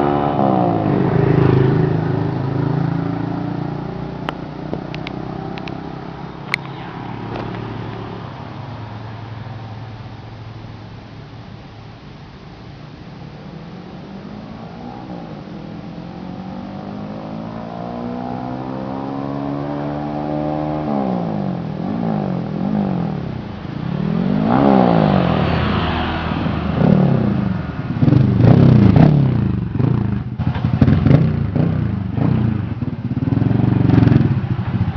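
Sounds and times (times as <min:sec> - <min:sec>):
motorcycle engine revving: 0:00.0 - 0:10.7, 0:13.2 - 0:34.9.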